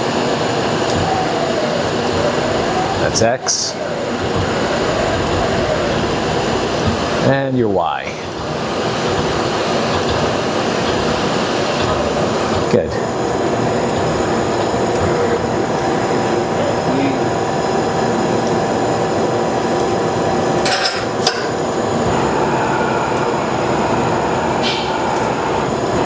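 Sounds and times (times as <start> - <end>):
machine hum with faint whine: 0.0 - 26.0.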